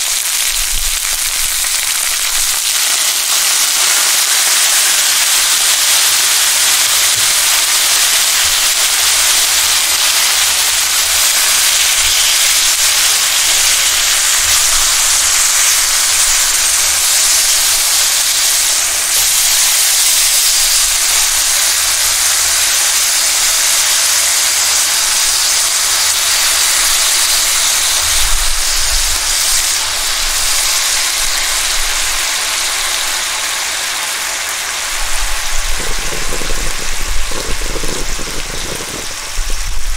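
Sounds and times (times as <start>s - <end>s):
beef sizzling in a wok: 0.0s - 39.9s.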